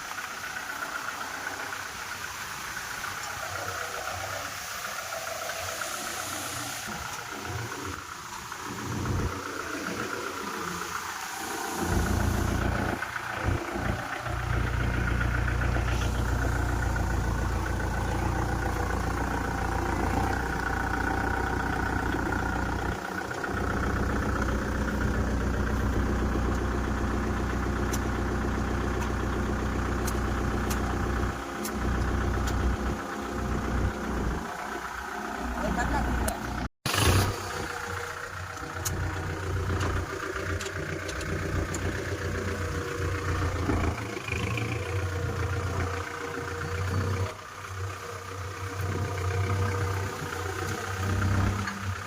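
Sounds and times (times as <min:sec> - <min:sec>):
tractor diesel engine idling: 0:00.0 - 0:52.0.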